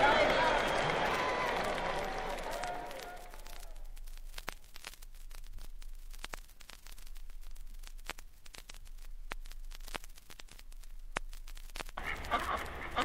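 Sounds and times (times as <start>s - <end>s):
vinyl record hiss: 0.0s - 13.0s
vinyl record pops: 0.4s - 13.0s.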